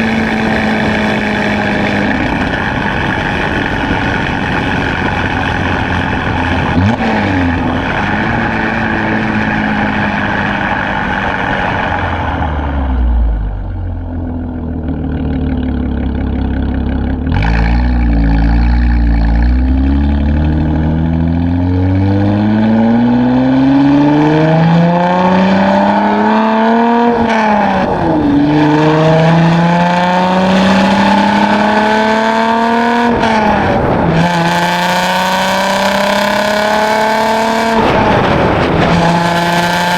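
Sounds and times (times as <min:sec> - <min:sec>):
car engine exhaust revving: 0:00.0 - 0:39.9.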